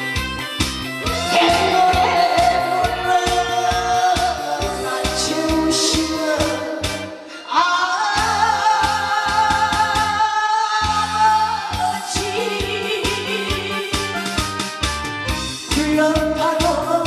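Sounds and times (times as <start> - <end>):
karaoke backing track with beat: 0.0 - 17.0
woman singing into a microphone: 1.1 - 14.4, 15.7 - 17.0.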